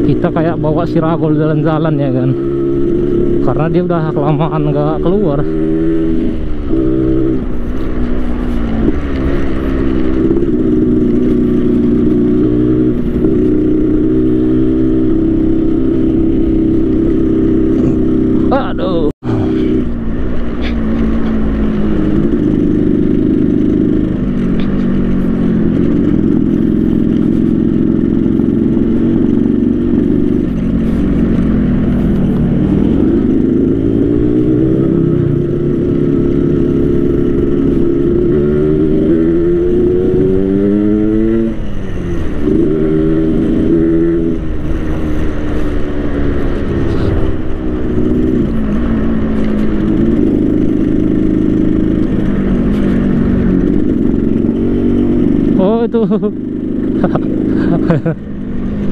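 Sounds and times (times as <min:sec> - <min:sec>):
two-stroke motorcycle engine revving: 0:00.0 - 0:58.9.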